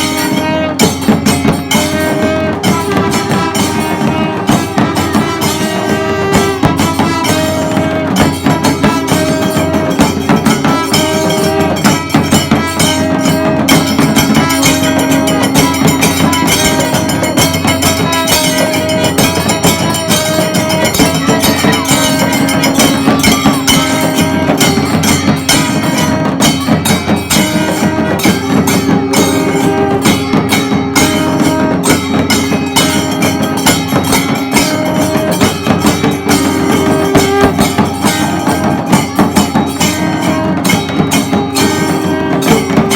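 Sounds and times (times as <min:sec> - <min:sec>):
clashing cymbals: 0:00.0 - 0:42.9
fast drumming: 0:00.0 - 0:42.9
horns holding long notes: 0:00.0 - 0:42.9.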